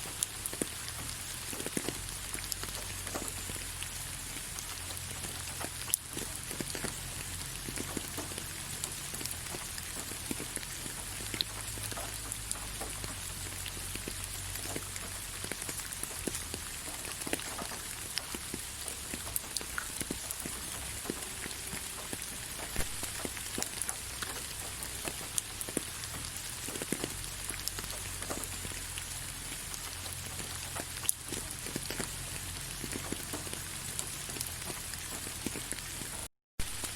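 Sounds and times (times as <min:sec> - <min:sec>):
rain falling on leaves: 0:00.0 - 0:36.9.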